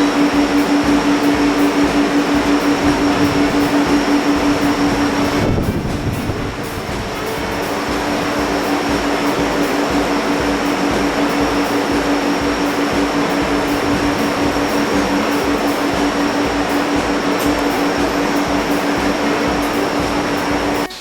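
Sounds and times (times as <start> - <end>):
steam machinery running: 0.0 - 21.0.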